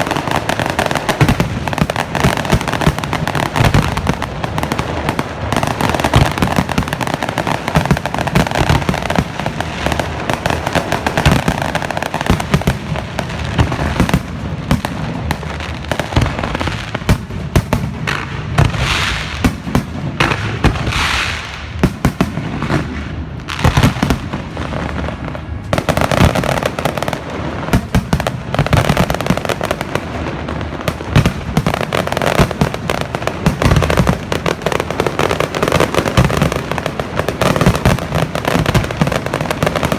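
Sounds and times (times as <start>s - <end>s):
fireworks crackling and hissing: 0.0s - 39.9s.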